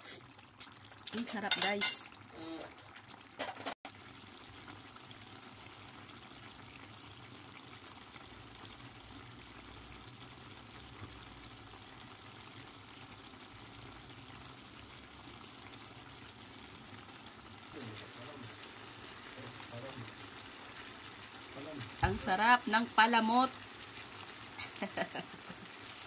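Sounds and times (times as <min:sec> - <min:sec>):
stew bubbling in a pot: 0:00.0 - 0:26.0.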